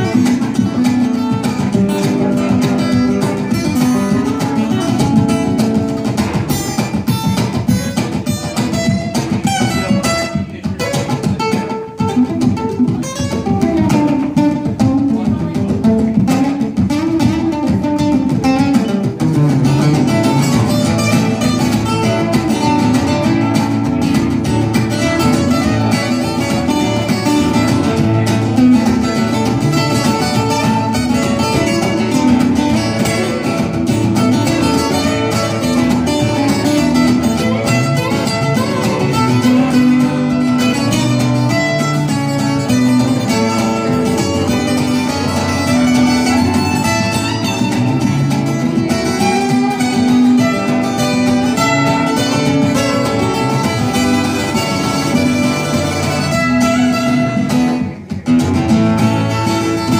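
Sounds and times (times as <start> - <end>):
acoustic guitar picked and strummed: 0.0 - 59.9.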